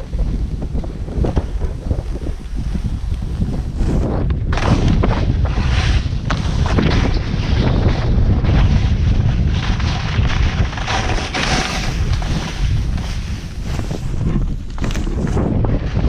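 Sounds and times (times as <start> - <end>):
skis scraping over snow: 0.0 - 16.0
wind buffeting microphone: 0.0 - 16.0.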